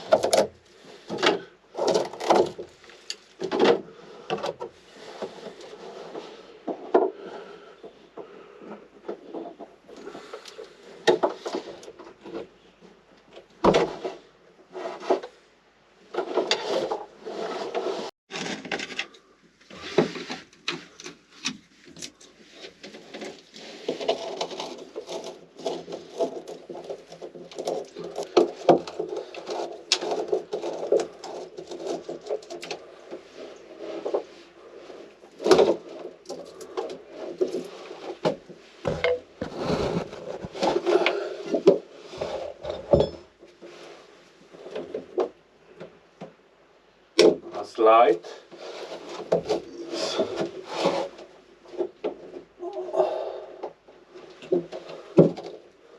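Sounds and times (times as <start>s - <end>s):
wood scraping and rubbing: 0.0s - 13.0s, 16.0s - 45.4s, 47.6s - 52.6s.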